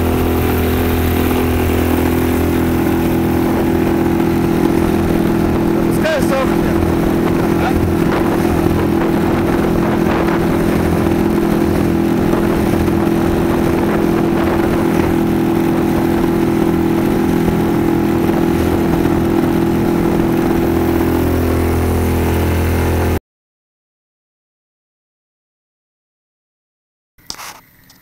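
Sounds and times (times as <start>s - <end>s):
outboard motor running: 0.0s - 23.2s
water rushing past hull: 0.0s - 23.2s.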